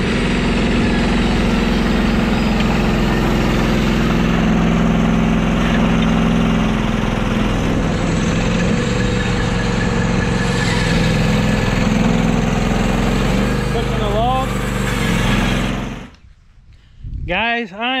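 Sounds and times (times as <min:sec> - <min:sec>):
portable sawmill engine running: 0:00.0 - 0:16.2.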